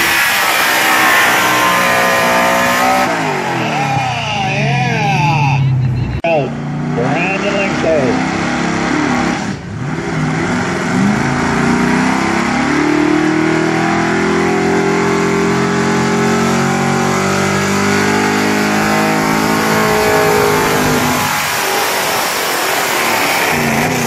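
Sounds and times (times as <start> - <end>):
truck engine revving at full throttle: 0.0 - 24.0.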